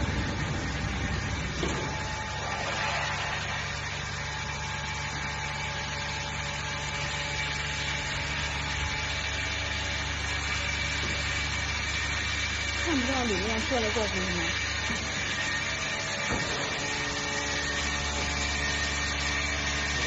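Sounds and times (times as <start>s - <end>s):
machine low mechanical hum: 0.0s - 20.0s.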